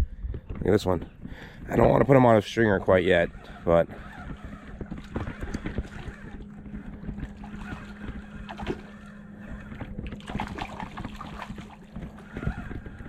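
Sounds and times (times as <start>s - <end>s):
wind buffeting microphone: 0.0s - 13.0s
water sloshing: 1.8s - 13.0s.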